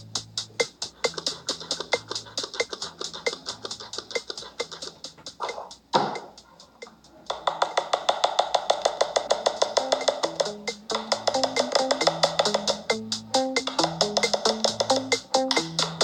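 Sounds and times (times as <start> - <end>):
electronic music with fast beat: 0.0 - 6.5, 8.1 - 16.0.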